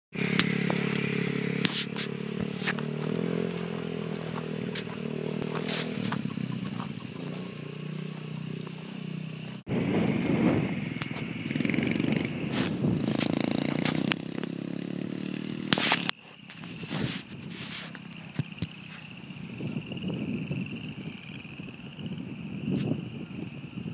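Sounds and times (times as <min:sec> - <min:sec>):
dirt bike engine running: 0:00.1 - 0:21.8.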